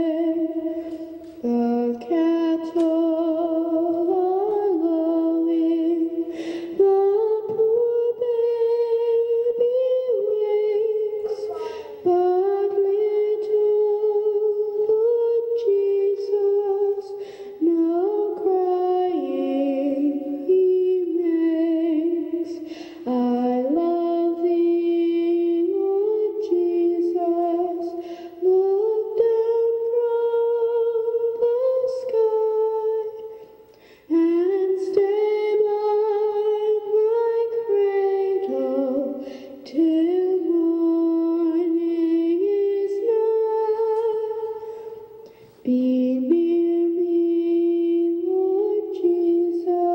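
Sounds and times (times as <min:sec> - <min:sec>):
woman singing: 0:00.0 - 0:49.9.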